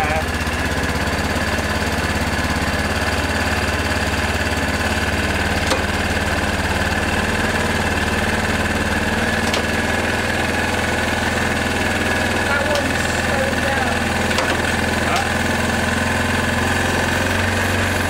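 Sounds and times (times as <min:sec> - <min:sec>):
atv engine idling: 0:00.0 - 0:18.0.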